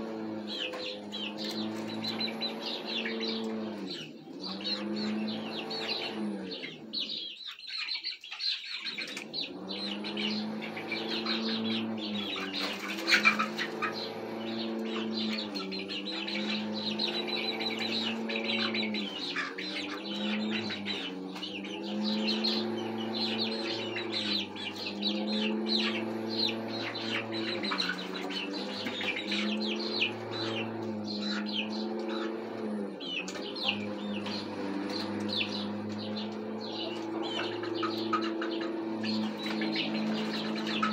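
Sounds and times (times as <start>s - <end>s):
chicks chirping and peeping: 0.0s - 40.9s.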